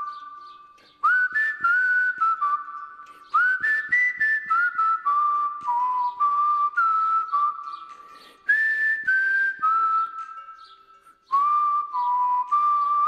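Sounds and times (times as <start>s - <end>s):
whistled melody: 0.0s - 13.0s.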